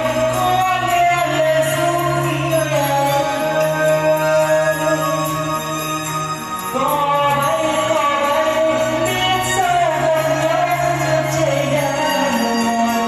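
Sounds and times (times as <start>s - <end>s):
song with gliding held notes: 0.0s - 13.0s.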